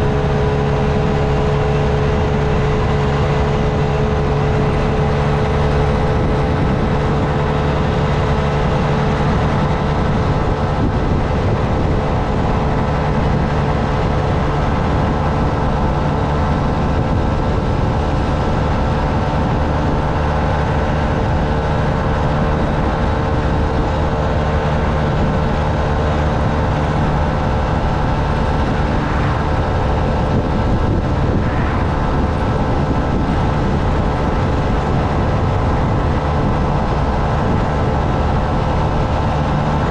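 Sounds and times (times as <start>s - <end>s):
small motorcycle engine cruising: 0.0s - 39.9s
wind and road noise: 0.0s - 39.9s.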